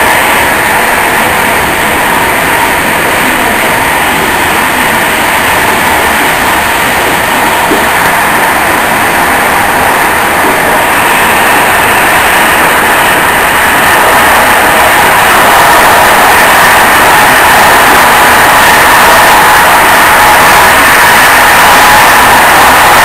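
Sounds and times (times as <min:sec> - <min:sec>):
train running noise from inside: 0:00.0 - 0:23.0.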